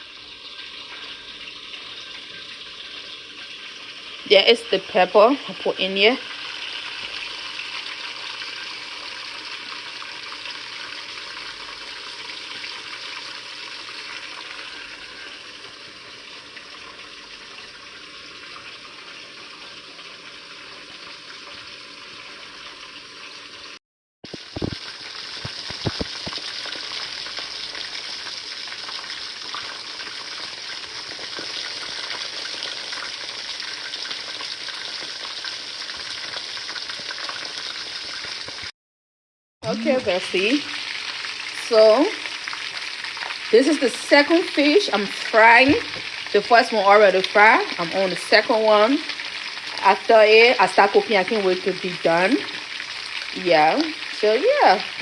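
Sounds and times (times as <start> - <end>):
fish sizzling in hot oil: 0.0 - 38.7, 39.7 - 55.0.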